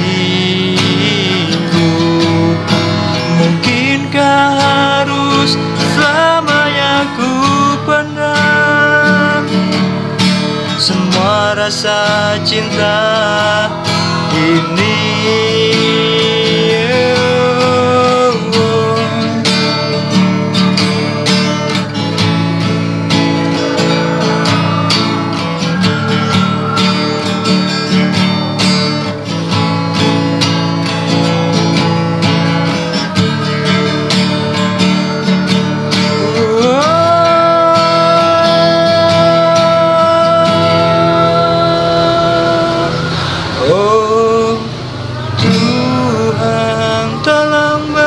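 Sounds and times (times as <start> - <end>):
pop ballad on acoustic guitar: 0.0 - 48.0.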